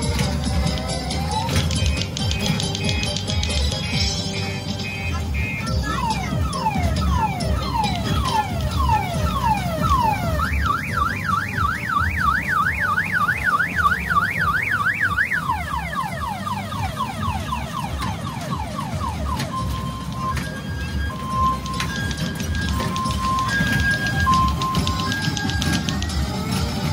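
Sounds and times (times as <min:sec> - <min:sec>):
electronic siren whoops and wails: 0:00.8 - 0:02.1, 0:05.5 - 0:26.1.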